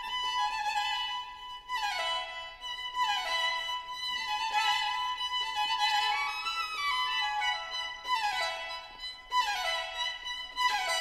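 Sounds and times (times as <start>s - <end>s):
violin music: 0.0s - 11.0s.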